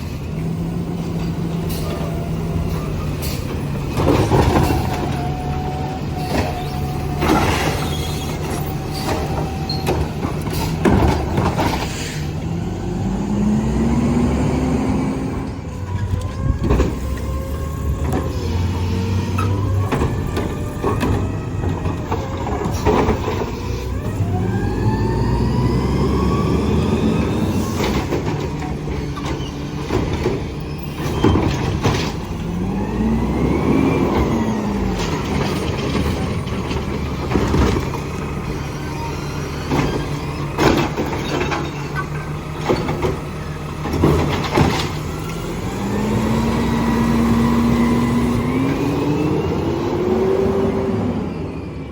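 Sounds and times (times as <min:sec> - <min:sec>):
garbage truck engine revving: 0:00.0 - 0:51.9
trash barrels banging: 0:00.5 - 0:50.3.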